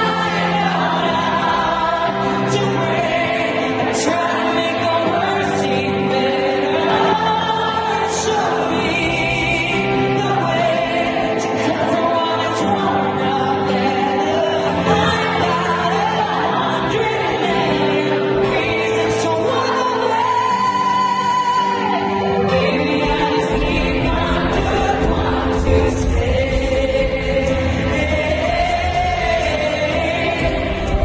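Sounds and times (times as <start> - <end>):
crowd singing along: 0.0 - 31.0
piano: 0.0 - 31.0
woman singing pop ballad: 0.0 - 31.0.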